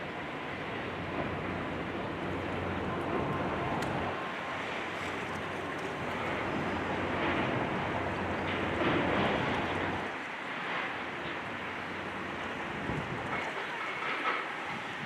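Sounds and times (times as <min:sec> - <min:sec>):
broad rushing noise: 0:00.0 - 0:15.0.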